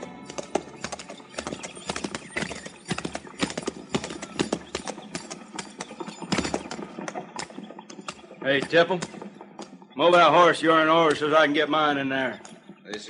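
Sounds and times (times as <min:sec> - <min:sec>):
horse hooves clopping: 0:00.0 - 0:13.0.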